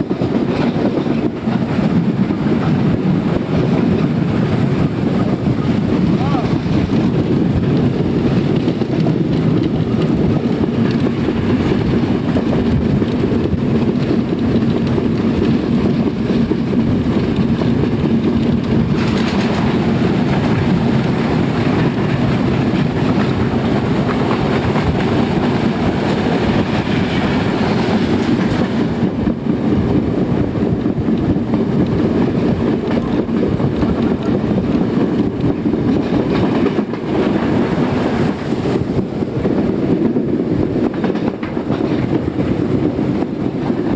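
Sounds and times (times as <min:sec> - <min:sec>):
train rumbling on rails: 0:00.0 - 0:43.9.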